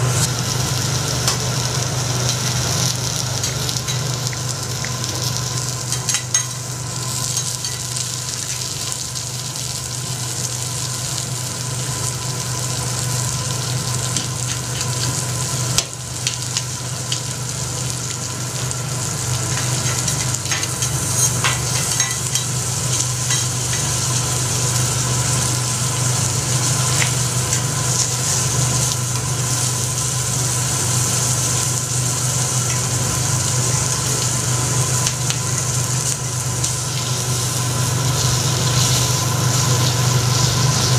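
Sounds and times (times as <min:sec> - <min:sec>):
food sizzling on griddle: 0:00.0 - 0:40.9.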